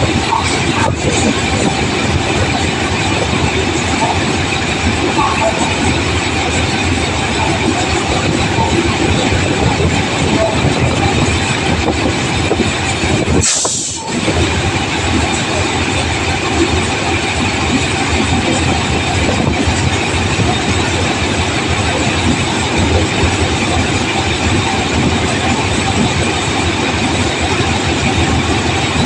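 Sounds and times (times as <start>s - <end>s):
train wheels rumbling and rattling: 0.0s - 29.0s.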